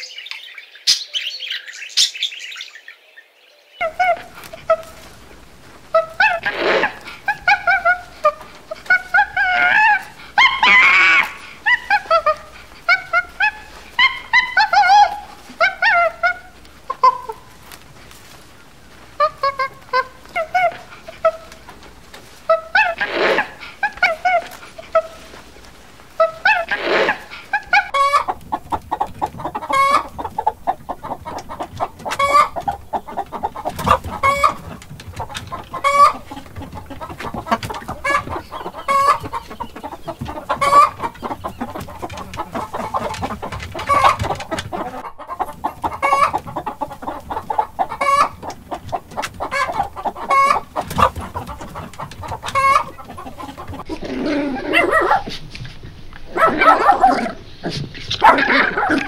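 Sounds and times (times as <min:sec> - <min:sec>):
dogs yipping and barking: 0:03.8 - 0:17.4, 0:19.1 - 0:25.5, 0:26.2 - 0:55.4, 0:56.3 - 0:59.0
chickens clucking: 0:03.8 - 0:59.0.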